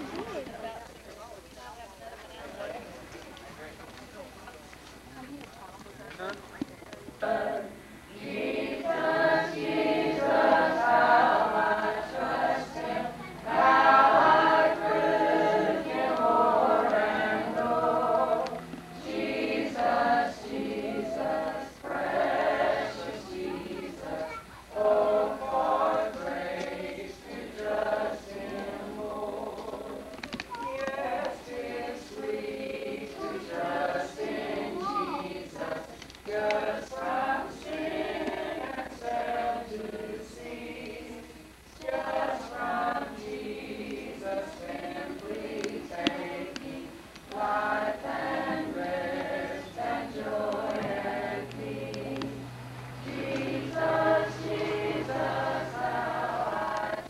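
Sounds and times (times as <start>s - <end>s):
group singing a hymn: 7.1s - 57.0s.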